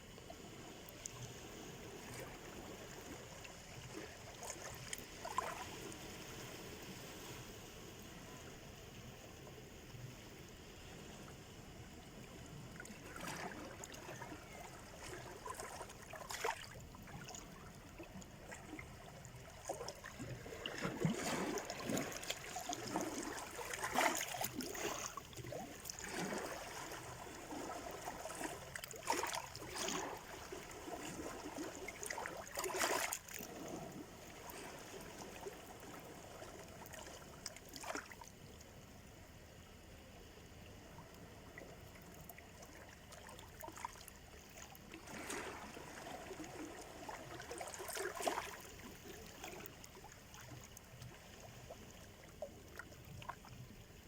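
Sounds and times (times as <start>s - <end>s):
small waves splashing on shore: 0.4s - 11.5s, 12.5s - 38.4s, 41.5s - 53.7s.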